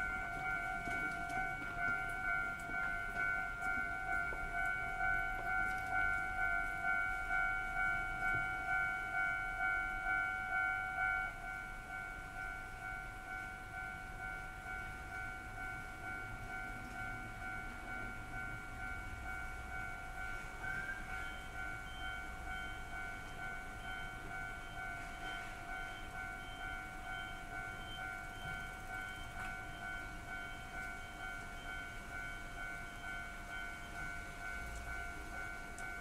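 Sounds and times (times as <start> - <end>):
level-crossing alarm clanging: 0.0 - 36.0.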